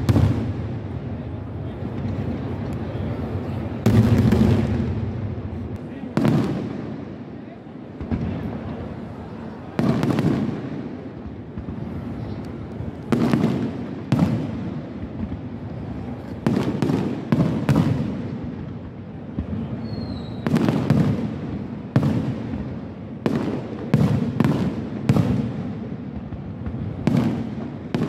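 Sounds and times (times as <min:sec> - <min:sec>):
fireworks bursting with echo: 0:00.0 - 0:28.0.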